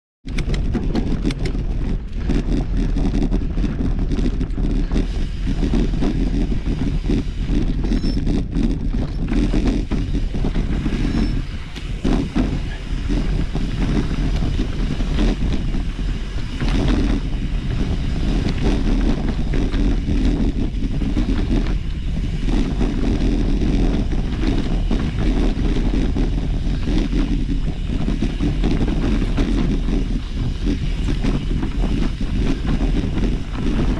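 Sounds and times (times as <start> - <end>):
bike rumbling and rattling: 0.2 - 33.9
wind buffeting microphone: 0.2 - 33.9.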